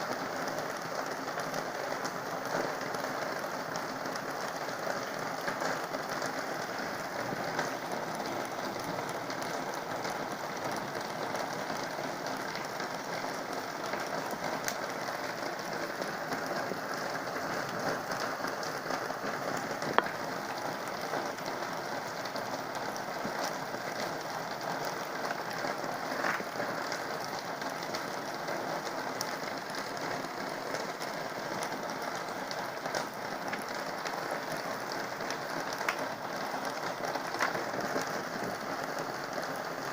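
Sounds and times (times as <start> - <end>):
heavy rain falling: 0.0 - 39.9
rain drop ticks: 0.0 - 39.9.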